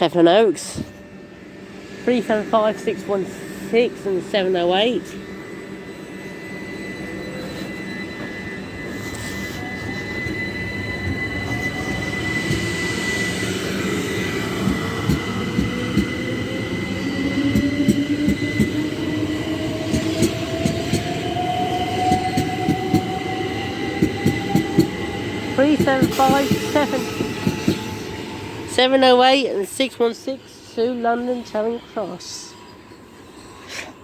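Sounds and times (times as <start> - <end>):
traction motor whine: 0.9 - 29.2.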